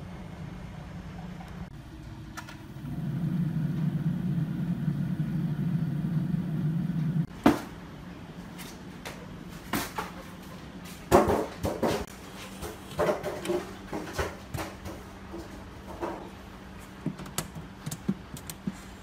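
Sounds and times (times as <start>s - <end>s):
refrigerator fan humming: 0.0s - 19.0s.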